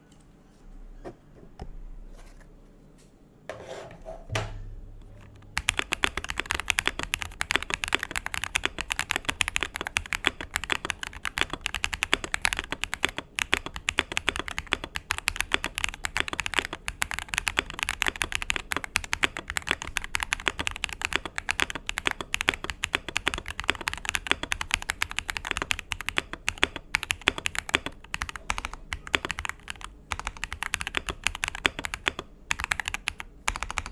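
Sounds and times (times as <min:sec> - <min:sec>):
mechanical keyboard typing: 0:05.2 - 0:33.9.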